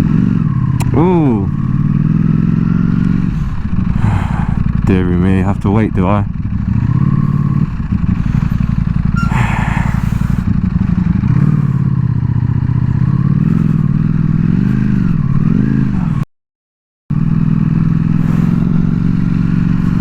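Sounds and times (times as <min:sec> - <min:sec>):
motorcycle engine revving: 0:00.0 - 0:16.3, 0:17.1 - 0:20.0.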